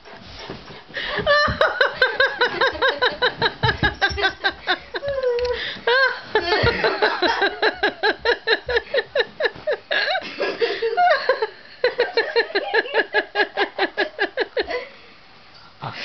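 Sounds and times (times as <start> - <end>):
person laughing hard: 1.0 - 14.9.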